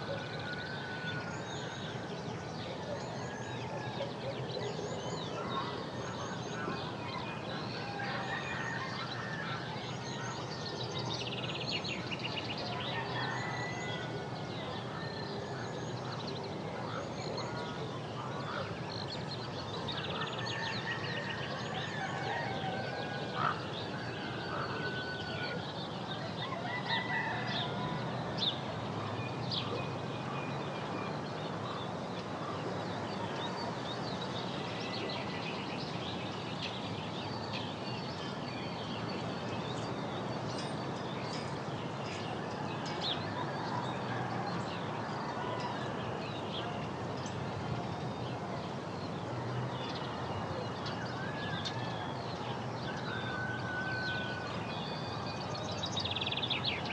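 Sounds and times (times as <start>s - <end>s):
many birds calling: 0.0s - 56.9s
steady background noise: 0.0s - 56.9s.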